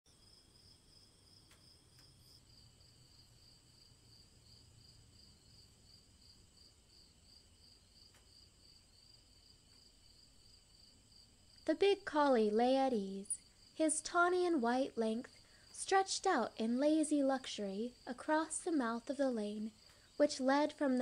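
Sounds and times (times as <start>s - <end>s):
crickets chirping: 0.1s - 21.0s.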